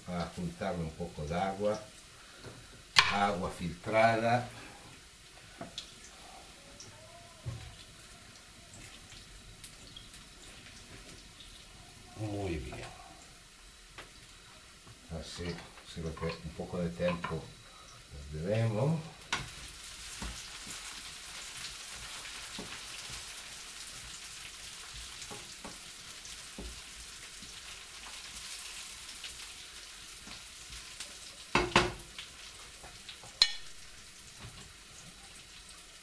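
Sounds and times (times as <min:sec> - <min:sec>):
onion sizzling in a frying pan: 0:00.0 - 0:36.0.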